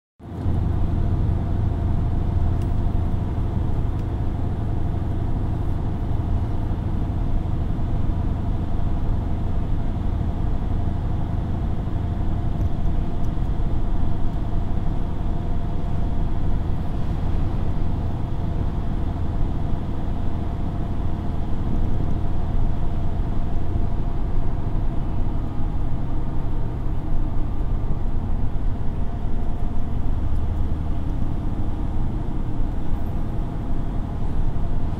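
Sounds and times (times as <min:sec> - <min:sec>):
vehicle road and engine rumble: 0:00.2 - 0:34.9.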